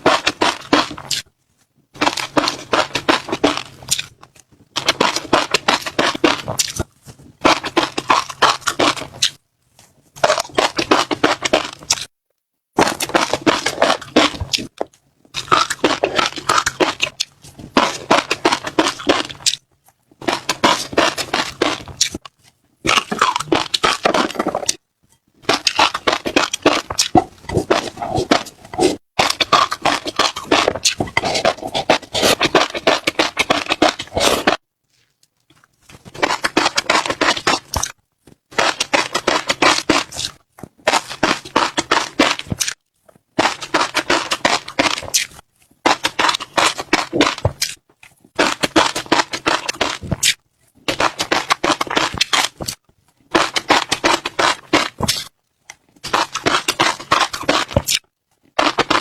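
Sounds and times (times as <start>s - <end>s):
crunchy chewing of seeds: 0.0s - 1.3s, 2.0s - 12.1s, 12.8s - 59.0s.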